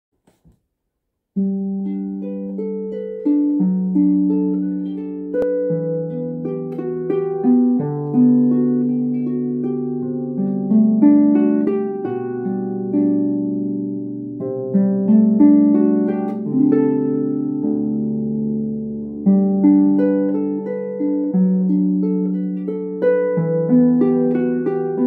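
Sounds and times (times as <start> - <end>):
harp playing: 1.4 - 25.0.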